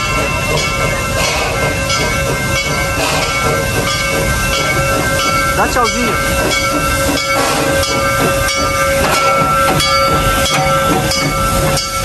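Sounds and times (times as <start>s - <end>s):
train cars rumbling past: 0.0s - 12.0s.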